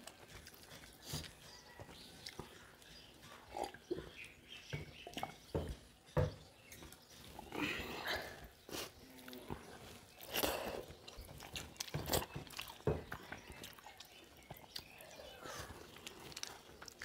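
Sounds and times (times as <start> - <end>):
chewing and lip smacking: 0.0 - 5.5, 8.4 - 17.0.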